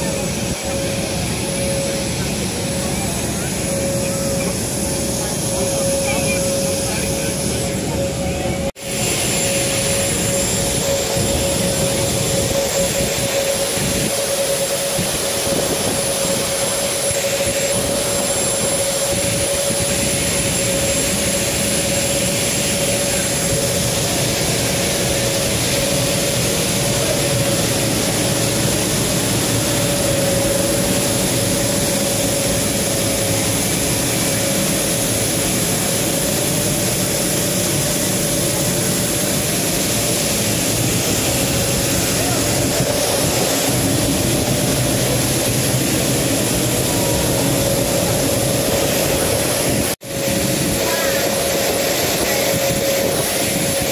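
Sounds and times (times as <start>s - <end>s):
jet turbine whine: 0.0s - 53.9s.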